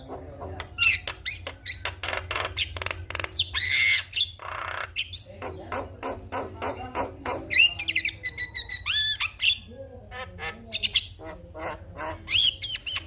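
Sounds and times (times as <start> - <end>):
bird chattering and whistling: 0.8 - 13.0.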